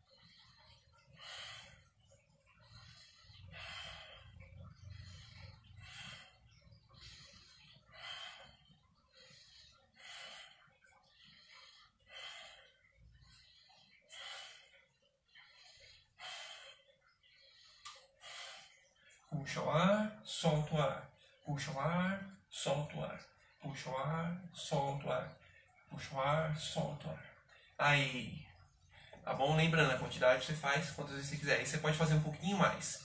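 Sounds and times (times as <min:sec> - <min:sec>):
man breathing rhythmically: 0:00.0 - 0:27.8, 0:28.4 - 0:33.0.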